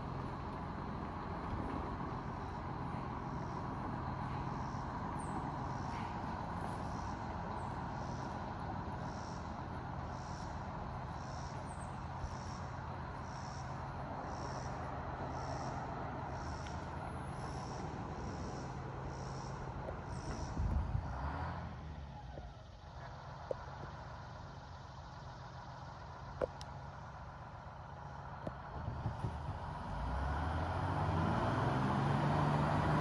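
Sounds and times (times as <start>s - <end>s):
distant bus diesel engine: 0.0s - 33.0s.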